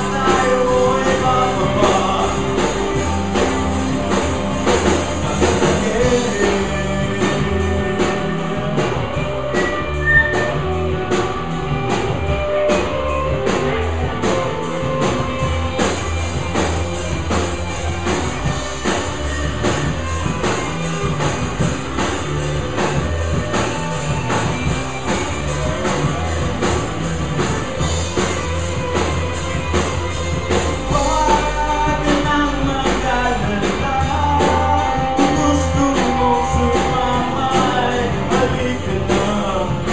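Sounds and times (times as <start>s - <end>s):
bass guitar: 0.0s - 39.9s
drum kit beat: 0.0s - 39.9s
electric guitars: 0.0s - 39.9s
lead vocals: 0.0s - 39.9s.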